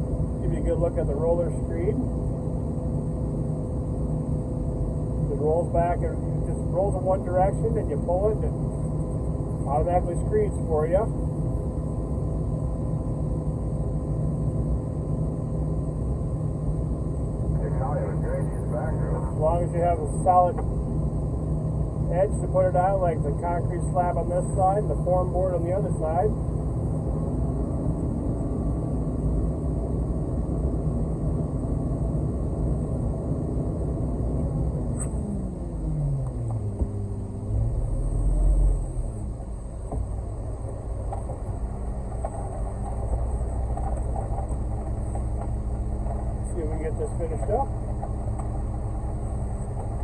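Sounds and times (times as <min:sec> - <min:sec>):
diesel engine rumbling: 0:00.0 - 0:50.0
faint constant hum: 0:00.0 - 0:50.0.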